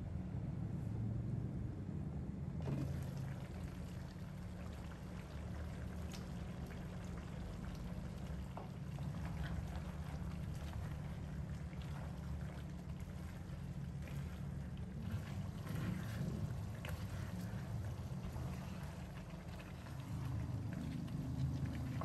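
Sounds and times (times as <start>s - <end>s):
sauce bubbling in a pan: 2.6s - 22.0s.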